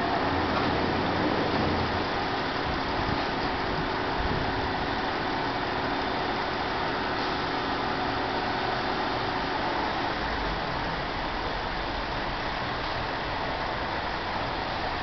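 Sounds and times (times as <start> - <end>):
diesel engines idling: 0.0 - 15.0.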